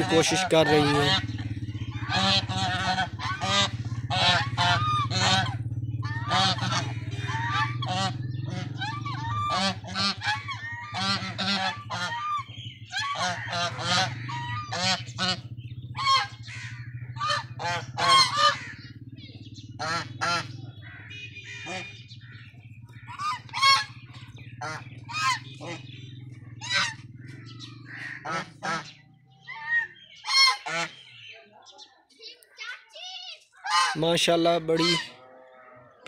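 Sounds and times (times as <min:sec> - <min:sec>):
steady low hum: 0:00.0 - 0:29.0
geese honking: 0:00.0 - 0:31.4, 0:33.5 - 0:36.0.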